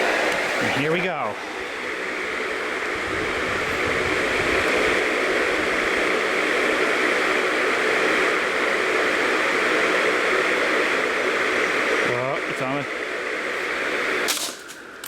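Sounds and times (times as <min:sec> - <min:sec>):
ceiling fan spinning: 0:00.0 - 0:12.2.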